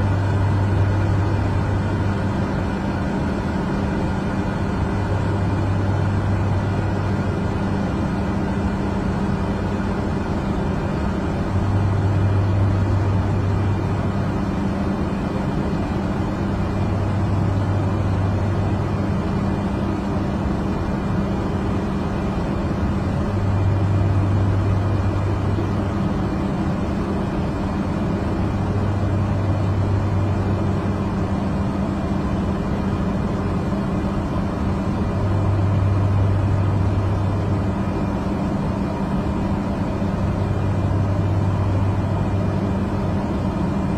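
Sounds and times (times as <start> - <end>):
small plane engine drone: 0.0 - 43.9.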